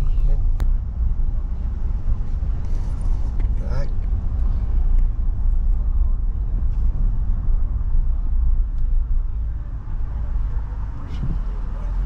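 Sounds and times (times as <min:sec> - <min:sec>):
engine and road noise rumble: 0:00.0 - 0:12.0.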